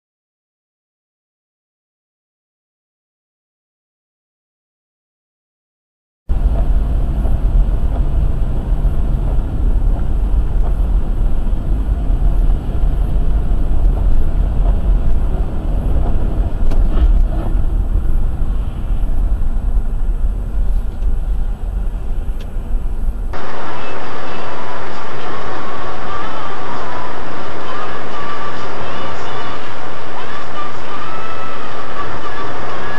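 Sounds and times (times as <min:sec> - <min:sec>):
car engine and road noise: 0:06.3 - 0:32.9.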